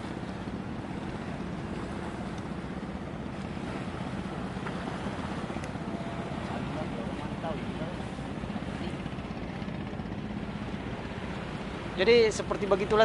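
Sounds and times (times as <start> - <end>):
small river waves: 0.0 - 13.0.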